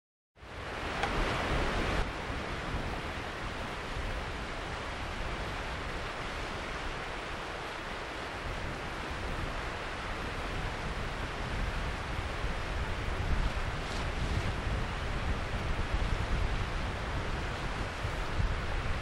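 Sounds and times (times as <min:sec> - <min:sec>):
rushing wind: 0:00.4 - 0:19.0.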